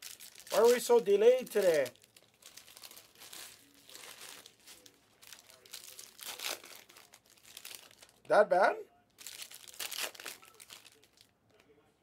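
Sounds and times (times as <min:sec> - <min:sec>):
plastic crinkling and rustling: 0:00.0 - 0:08.3, 0:09.1 - 0:11.7.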